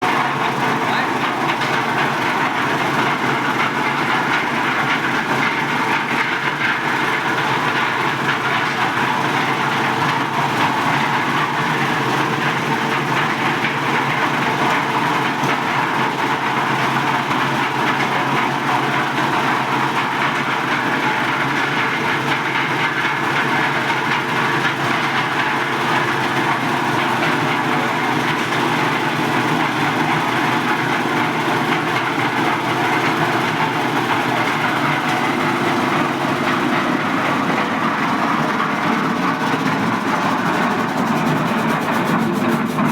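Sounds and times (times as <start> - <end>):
concrete mixer running: 0.0 - 42.9.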